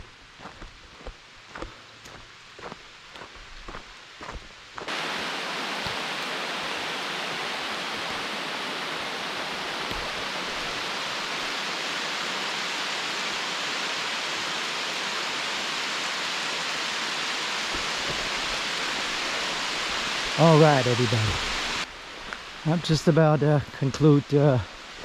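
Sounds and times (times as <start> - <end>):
rushing water: 4.8 - 25.0.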